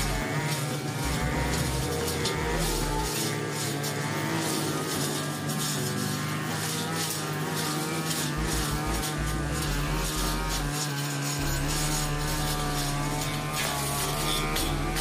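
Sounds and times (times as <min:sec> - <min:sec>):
blade cutting grass: 0:00.0 - 0:15.0
brush cutter engine running: 0:00.0 - 0:15.0.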